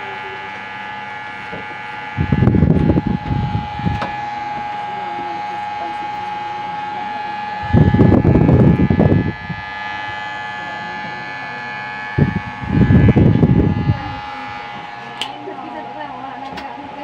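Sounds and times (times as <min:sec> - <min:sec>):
electric hair clipper humming: 0:00.0 - 0:17.0.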